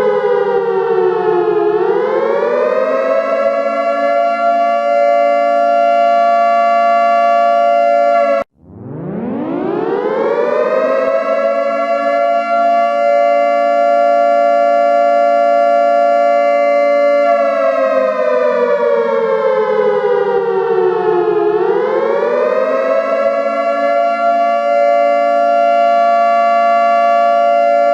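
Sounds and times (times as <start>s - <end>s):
civil defense siren wailing: 0.0s - 27.9s.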